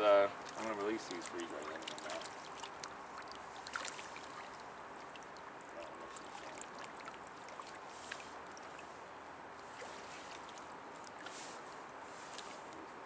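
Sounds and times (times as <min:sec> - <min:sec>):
river water flowing: 0:00.0 - 0:13.0
small ticks and drips: 0:00.2 - 0:11.5.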